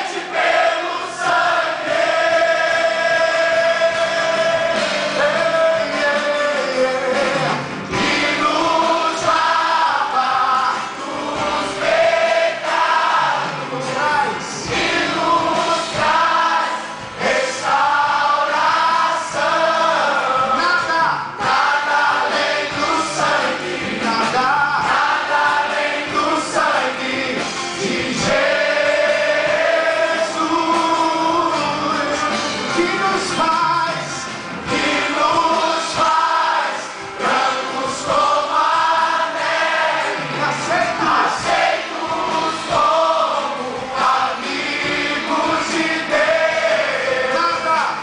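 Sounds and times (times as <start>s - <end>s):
mixed choir singing gospel song: 0.0s - 48.0s.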